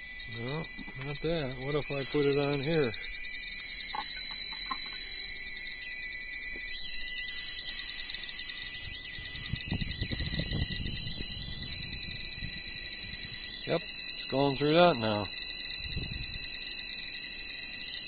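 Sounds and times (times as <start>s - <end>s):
high-pitched electronic beep: 0.0s - 3.1s, 3.8s - 5.3s, 6.4s - 16.6s.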